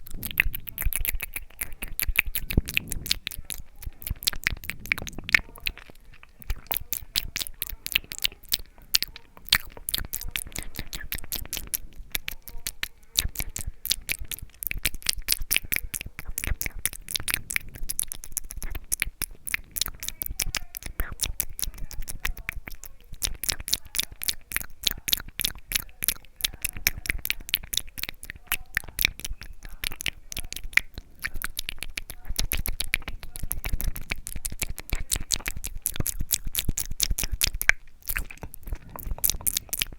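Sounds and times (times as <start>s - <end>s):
wet mouth clicks and smacks: 0.0s - 39.9s.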